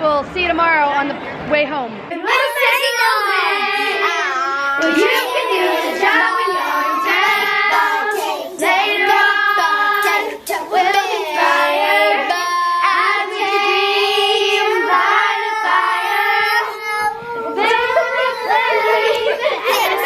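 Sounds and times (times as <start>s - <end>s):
child singing: 2.2s - 20.0s.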